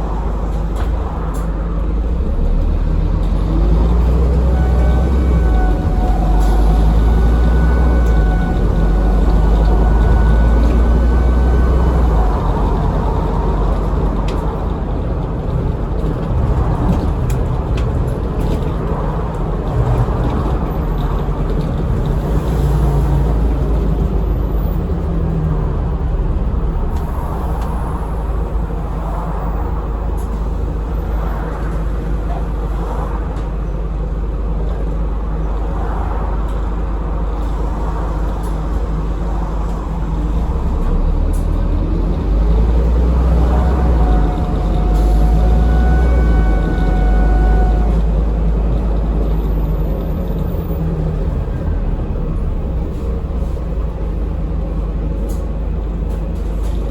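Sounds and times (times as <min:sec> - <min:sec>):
bus engine rumble: 0:00.0 - 0:56.9
road and body noise: 0:00.0 - 0:56.9.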